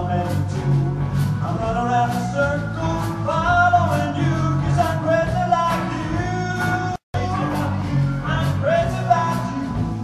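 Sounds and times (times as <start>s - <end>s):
blues band playing: 0.0s - 10.0s
man singing: 0.0s - 10.0s.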